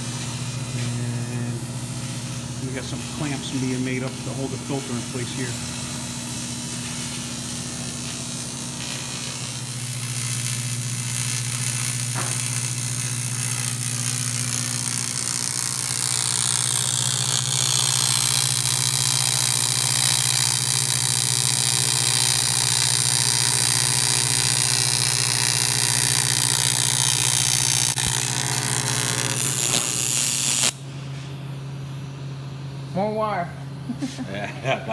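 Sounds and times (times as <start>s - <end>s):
welding arc buzzing hum: 0.0s - 34.9s.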